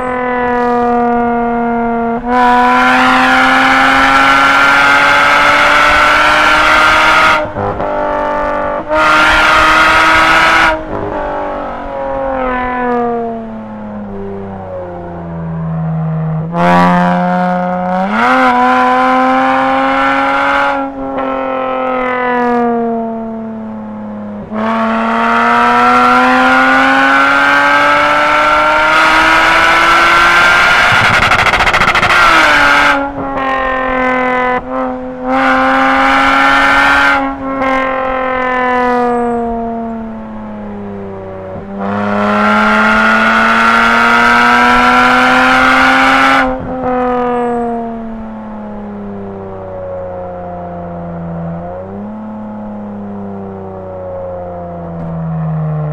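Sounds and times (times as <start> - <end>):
car engine accelerating hard: 0.0 - 55.9.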